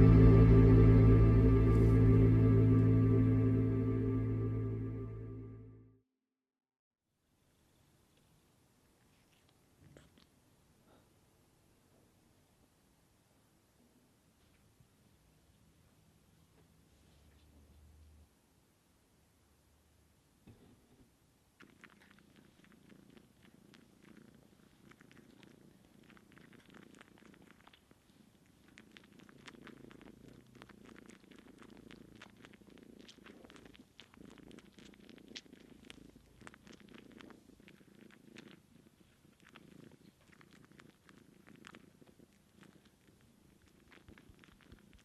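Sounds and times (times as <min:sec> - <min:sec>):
cats purring: 0:00.0 - 0:04.8, 0:07.4 - 0:18.3, 0:20.4 - 0:45.0.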